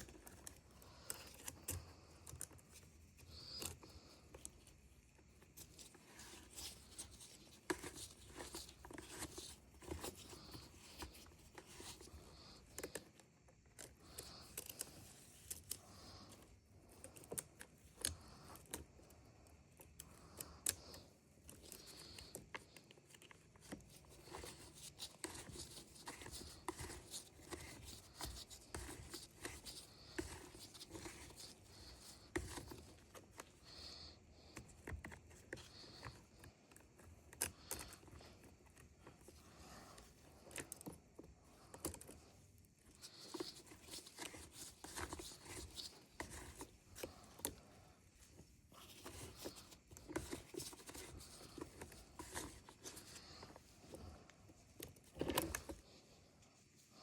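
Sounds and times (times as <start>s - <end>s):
hands clicking and tapping tools: 0.0s - 55.8s.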